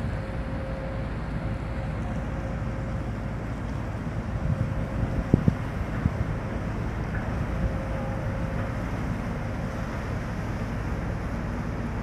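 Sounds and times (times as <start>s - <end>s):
ship passing with low rumble: 0.0s - 12.0s
wind buffeting microphone: 0.0s - 12.0s.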